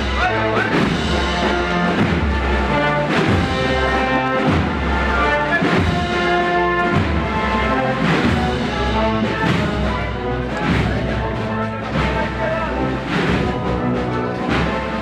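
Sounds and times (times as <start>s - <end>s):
brass chords: 0.0s - 15.0s
drum beat: 0.0s - 15.0s.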